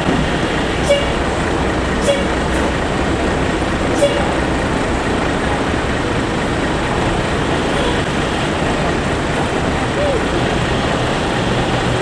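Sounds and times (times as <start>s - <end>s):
heavy vehicle engines: 0.0s - 12.0s
passing road traffic: 0.0s - 12.0s.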